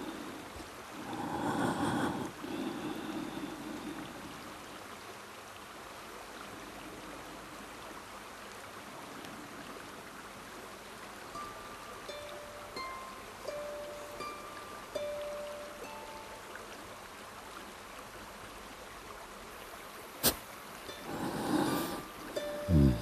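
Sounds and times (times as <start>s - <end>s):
river water flowing over rocks: 0.0s - 23.0s.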